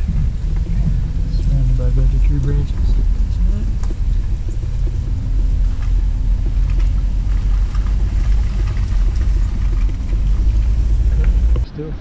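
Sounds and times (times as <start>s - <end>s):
car driving slowly: 0.0s - 12.0s.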